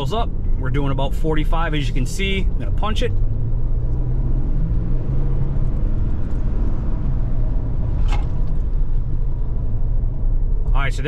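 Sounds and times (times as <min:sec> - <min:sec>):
car engine accelerating: 0:00.0 - 0:10.7
road noise: 0:00.0 - 0:11.0.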